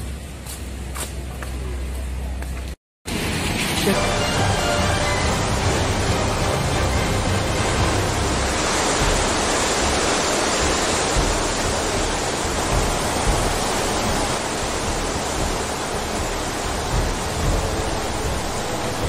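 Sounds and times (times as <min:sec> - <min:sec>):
water rushing over weir: 0:03.1 - 0:19.0.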